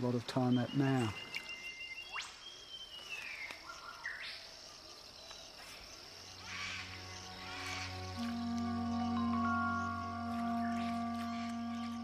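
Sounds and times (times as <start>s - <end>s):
high insect drone: 0.0s - 12.0s
whistled bird calls: 0.3s - 4.5s, 6.4s - 12.0s.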